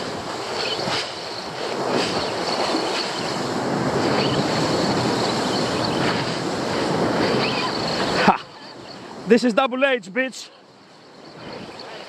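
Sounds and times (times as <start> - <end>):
sea waves breaking over rocks: 0.0 - 12.0
wind buffeting microphone: 0.0 - 12.0.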